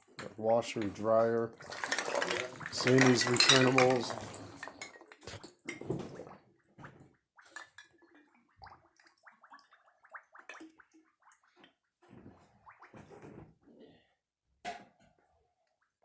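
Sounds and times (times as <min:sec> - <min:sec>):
water sloshing and splashing: 0:00.0 - 0:13.6.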